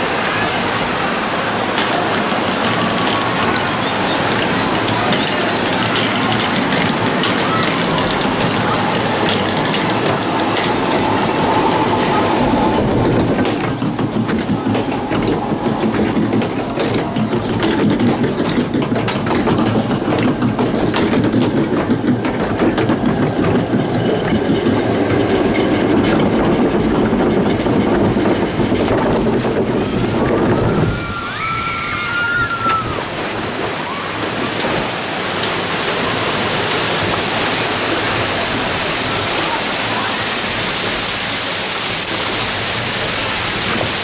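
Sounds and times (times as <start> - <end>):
conveyor mechanical rattle: 0.0 - 44.0
rushing water: 0.0 - 44.0.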